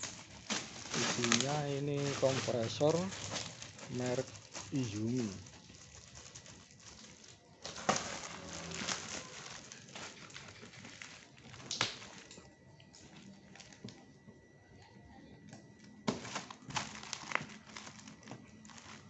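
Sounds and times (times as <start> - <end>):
packaging rustling: 0.0 - 14.0, 15.8 - 19.0.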